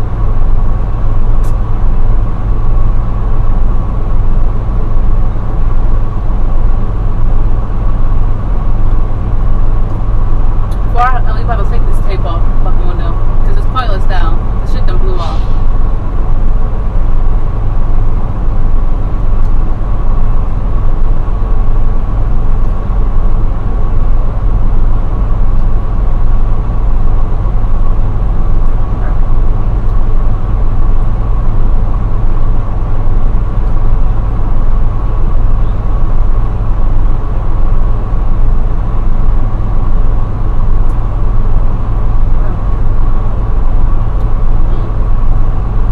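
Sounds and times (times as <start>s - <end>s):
thin steady whine: 0.0s - 45.9s
truck rumble from inside cab: 0.0s - 45.9s.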